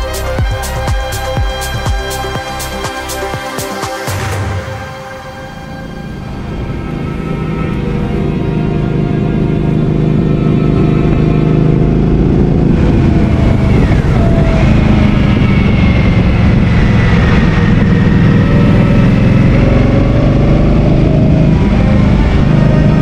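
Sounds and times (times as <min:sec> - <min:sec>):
motorcycle engine running: 0:00.0 - 0:04.6, 0:05.4 - 0:23.0
short falling whine: 0:04.0 - 0:23.0.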